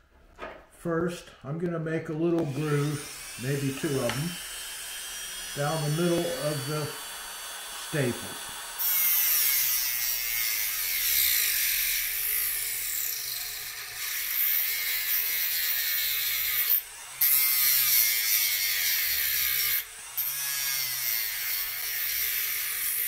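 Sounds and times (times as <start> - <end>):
motor tool grinding metal: 2.4 - 23.0.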